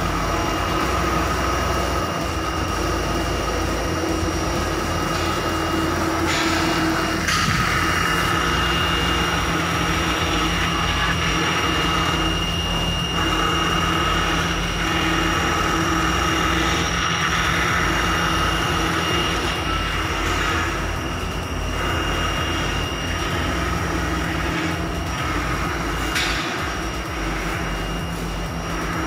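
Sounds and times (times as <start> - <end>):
router spindle milling foam: 0.0 - 29.0.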